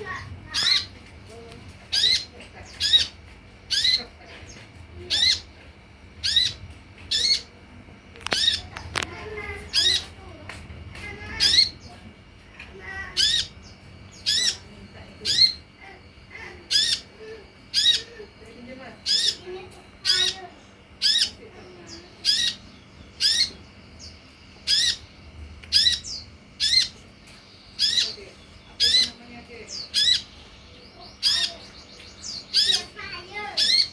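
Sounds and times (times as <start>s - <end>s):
sunbird calling: 0.0s - 1.0s, 1.9s - 4.2s, 5.0s - 5.6s, 6.2s - 7.6s, 8.2s - 10.4s, 11.1s - 12.0s, 12.7s - 33.9s.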